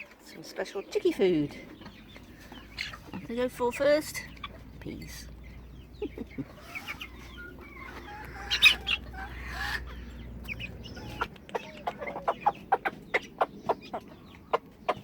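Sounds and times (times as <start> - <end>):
chicks cheeping: 0.0 - 15.0
hen clucking: 0.0 - 15.0.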